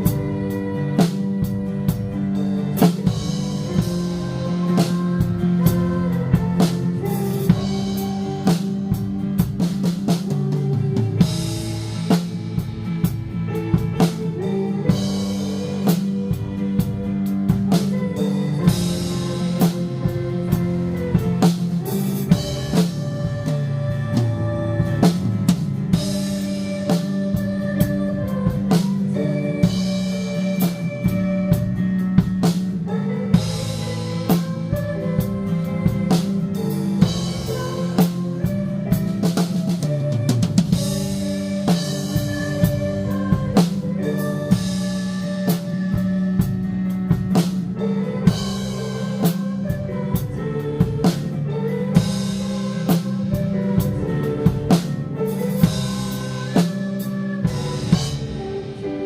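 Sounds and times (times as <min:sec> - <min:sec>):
band music: 0:00.0 - 0:59.0
drum kit beat: 0:00.0 - 0:59.0.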